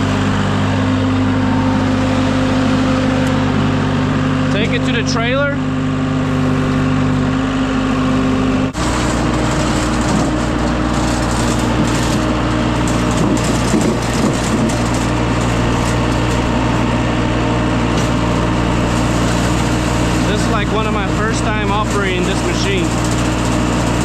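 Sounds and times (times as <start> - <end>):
construction equipment engine running: 0.0 - 24.0.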